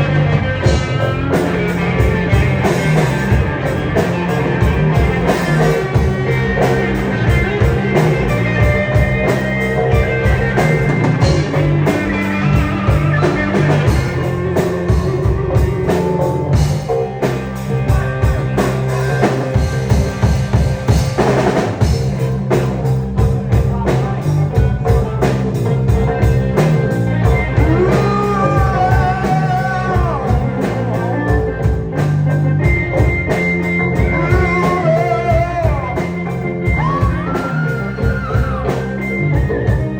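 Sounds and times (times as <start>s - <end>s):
bass guitar: 0.0s - 39.9s
drum kit beat: 0.0s - 39.9s
electric guitar: 0.0s - 39.9s
gliding lead guitar lines: 0.0s - 39.9s.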